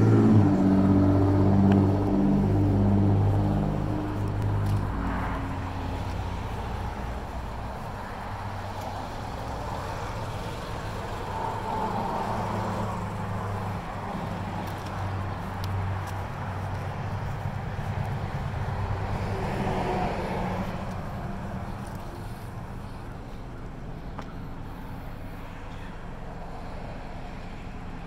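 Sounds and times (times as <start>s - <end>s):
outdoor traffic noise: 0.0s - 28.0s
vehicle engine idling: 0.0s - 28.0s.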